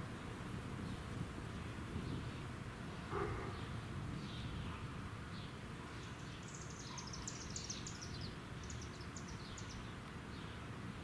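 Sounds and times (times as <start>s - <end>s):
distant suburban noise: 0.0s - 11.0s.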